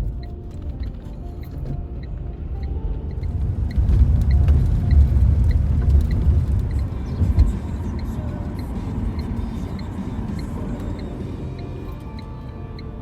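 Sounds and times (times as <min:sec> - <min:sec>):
car engine and tyre rumble: 0:00.0 - 0:13.0
faint high ticks: 0:00.0 - 0:13.0.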